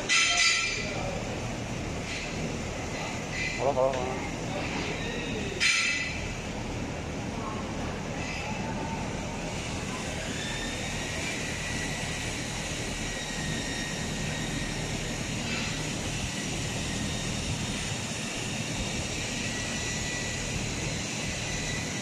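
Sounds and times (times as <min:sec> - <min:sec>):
machine mechanical drone: 0:00.0 - 0:22.0.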